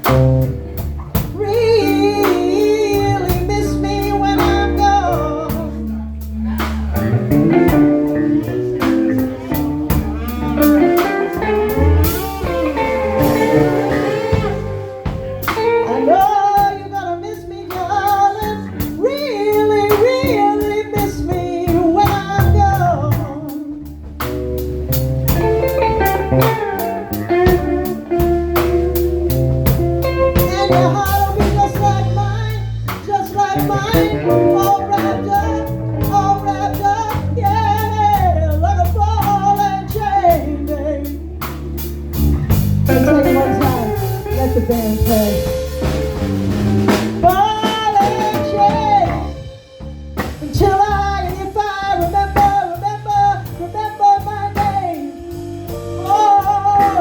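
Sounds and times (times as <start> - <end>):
blues band music: 0.0 - 57.0.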